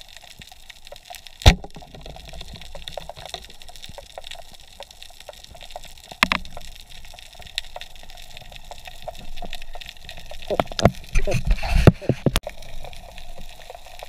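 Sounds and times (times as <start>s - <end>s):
small clicks and crackles: 0.0s - 14.0s
underwater water noise: 0.0s - 14.0s.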